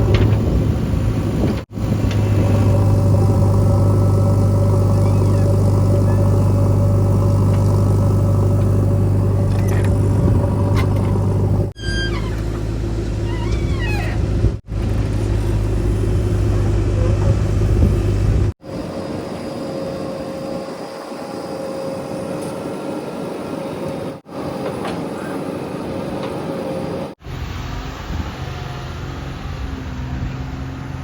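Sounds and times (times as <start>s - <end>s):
heavy diesel engines rumbling: 0.0s - 21.4s, 24.1s - 31.0s
engine whine: 0.0s - 31.0s.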